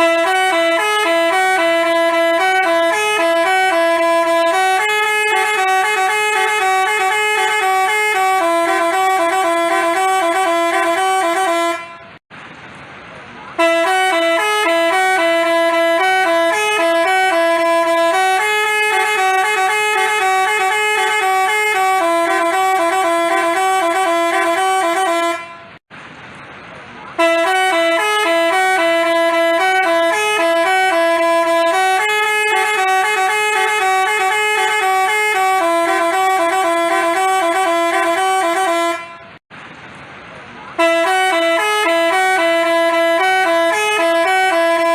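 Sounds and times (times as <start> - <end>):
bus horn playing a tune: 0.0 - 12.2, 13.5 - 25.8, 27.1 - 39.4, 40.7 - 44.9.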